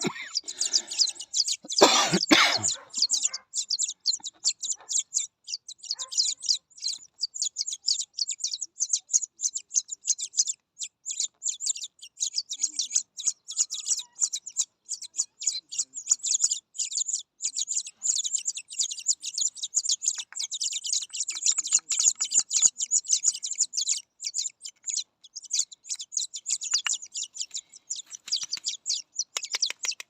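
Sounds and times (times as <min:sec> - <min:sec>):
nestling birds chirping: 0:00.0 - 0:30.0.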